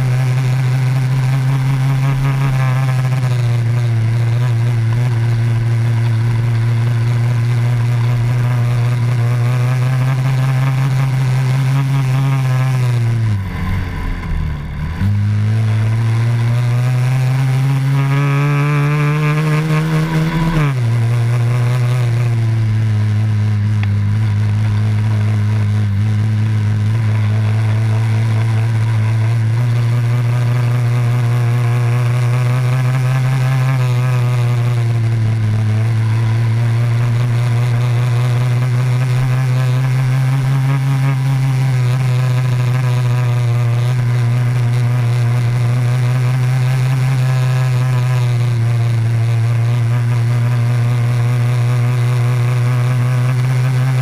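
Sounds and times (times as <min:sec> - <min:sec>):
small motorcycle engine: 0:00.0 - 0:54.0.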